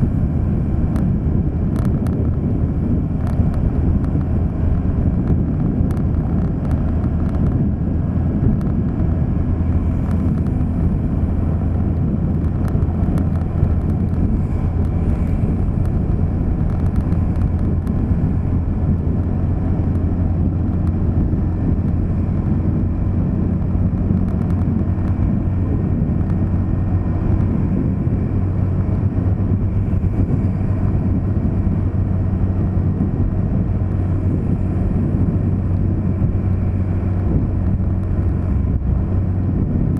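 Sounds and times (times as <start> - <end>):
engine and road rumble: 0.0 - 39.9.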